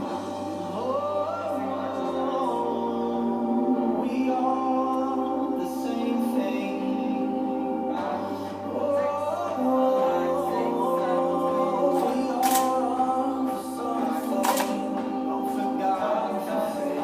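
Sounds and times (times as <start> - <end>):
voices singing sustained chords: 0.0 - 17.0.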